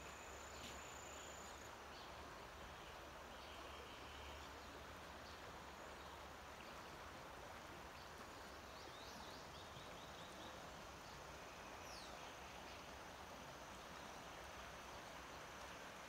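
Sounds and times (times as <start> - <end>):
faint songbirds chirping: 0.0 - 16.0
steady outdoor hiss: 0.0 - 16.0.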